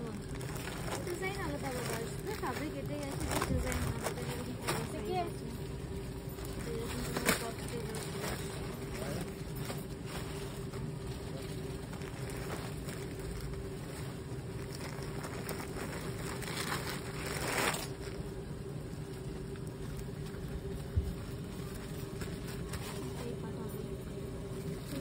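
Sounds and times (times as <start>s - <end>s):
constant hum: 0.0s - 25.0s
traffic rumble: 0.0s - 25.0s.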